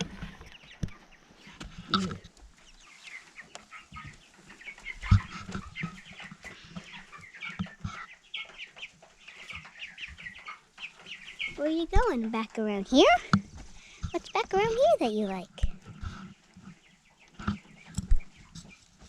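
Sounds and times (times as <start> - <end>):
chicks peeping and clucking: 0.0 - 19.0.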